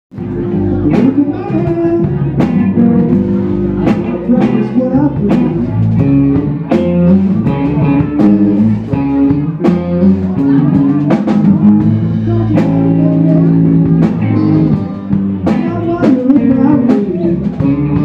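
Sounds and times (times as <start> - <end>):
bass guitar: 0.1 - 18.0
drum kit beat: 0.1 - 18.0
electric guitar: 0.1 - 18.0
man singing: 0.1 - 18.0.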